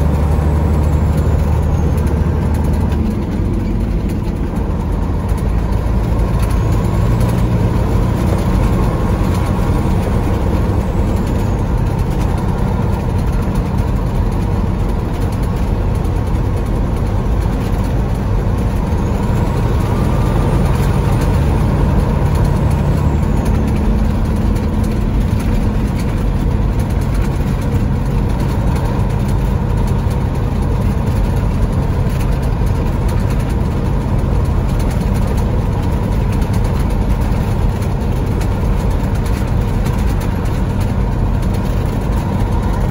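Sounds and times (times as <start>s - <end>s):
road noise: 0.0s - 42.9s
truck diesel engine cruising: 0.0s - 42.9s.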